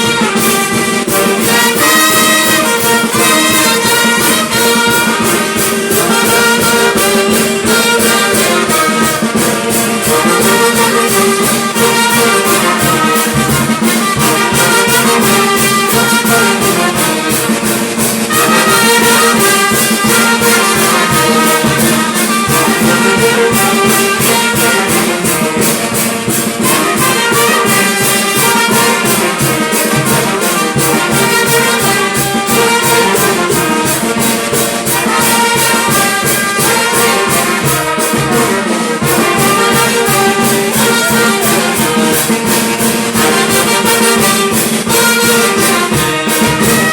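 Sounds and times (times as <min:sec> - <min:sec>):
percussion beat: 0:00.0 - 0:46.9
trumpets and trombones playing: 0:00.0 - 0:46.9.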